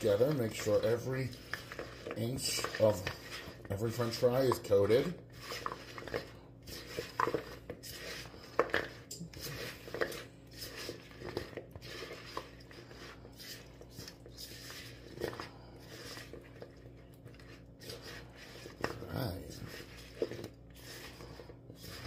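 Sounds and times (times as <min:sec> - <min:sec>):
spatula scraping plastic bowl: 0:00.0 - 0:22.0.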